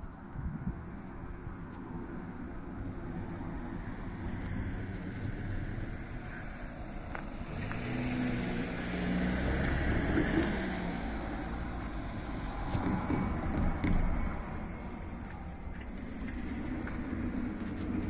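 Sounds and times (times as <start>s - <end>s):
vehicle passing: 3.3s - 18.0s.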